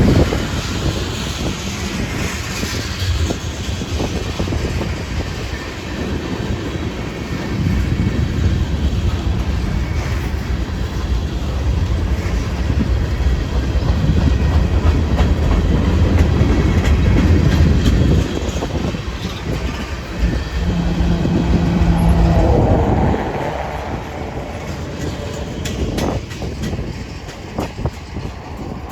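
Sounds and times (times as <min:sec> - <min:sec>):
freight train rolling past: 0:00.1 - 0:28.9.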